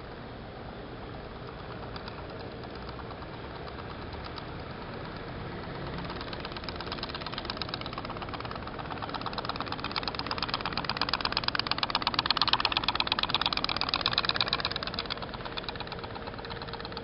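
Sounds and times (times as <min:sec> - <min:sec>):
toy steam boat popping: 0:01.2 - 0:17.0.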